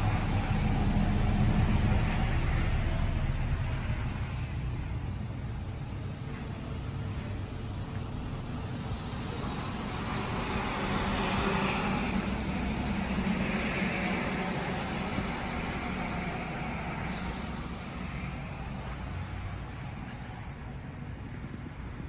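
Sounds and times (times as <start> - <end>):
road vehicle passing: 0.0 - 22.0
steady low rumble: 0.0 - 22.0.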